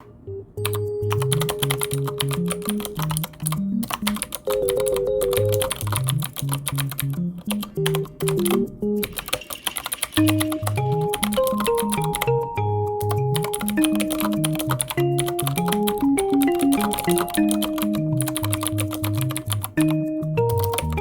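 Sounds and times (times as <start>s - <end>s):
keyboard typing: 0.0s - 21.0s
light background music: 0.0s - 21.0s.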